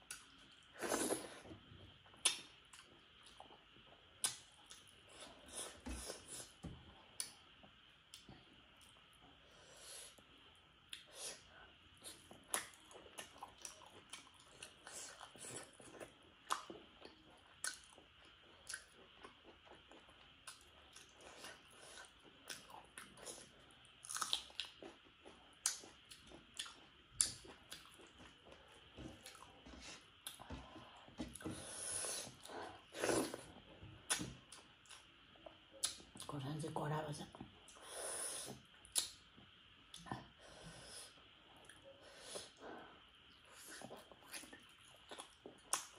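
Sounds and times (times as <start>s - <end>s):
person chewing food: 0.0s - 9.1s, 12.0s - 36.3s, 41.4s - 45.9s.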